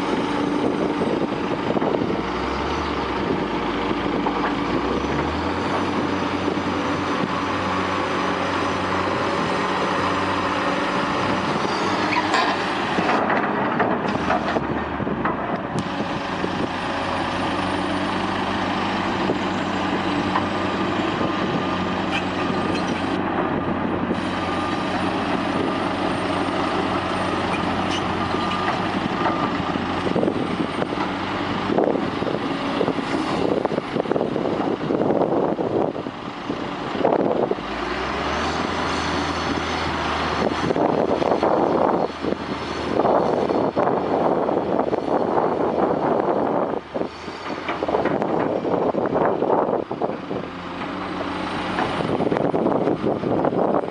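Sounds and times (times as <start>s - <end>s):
heavy diesel engines under load: 0.0s - 53.9s.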